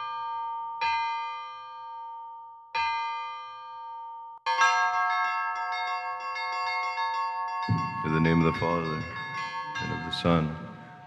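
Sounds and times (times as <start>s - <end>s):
church bell struck slowly: 0.0s - 11.0s
peal of church bells: 0.0s - 11.0s.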